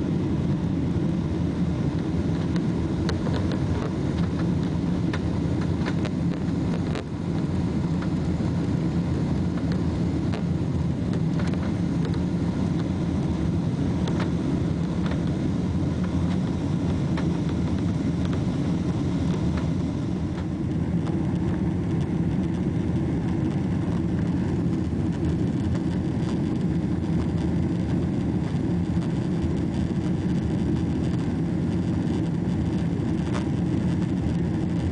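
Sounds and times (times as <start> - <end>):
airplane cabin engine drone: 0.0 - 34.9.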